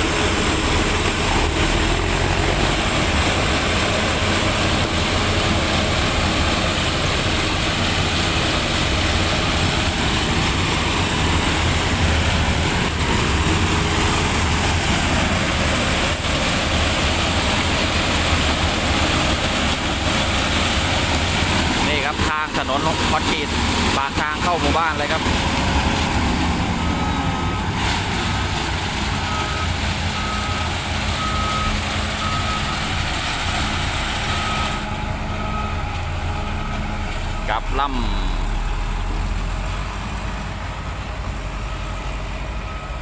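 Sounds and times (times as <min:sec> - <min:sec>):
diesel tractor engine running: 0:00.0 - 0:43.0.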